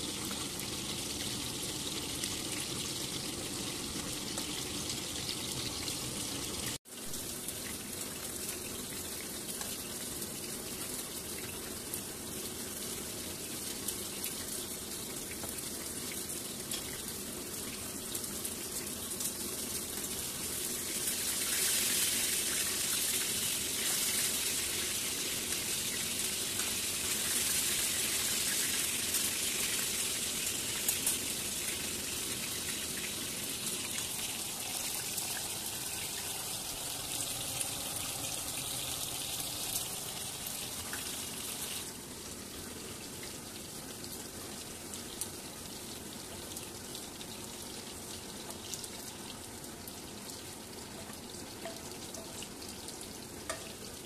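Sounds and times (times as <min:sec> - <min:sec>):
chicken frying in oil: 0:00.0 - 0:54.0.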